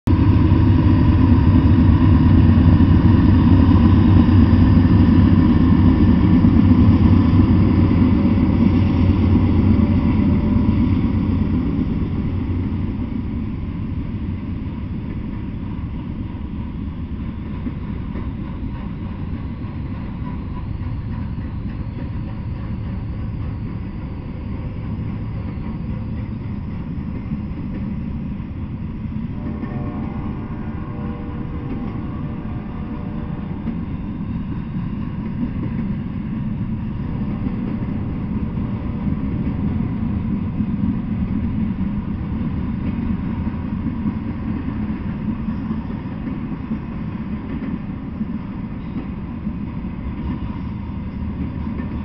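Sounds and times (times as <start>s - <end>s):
diesel locomotives rumbling: 0.0s - 52.0s
train cars rolling on rails: 0.1s - 52.0s.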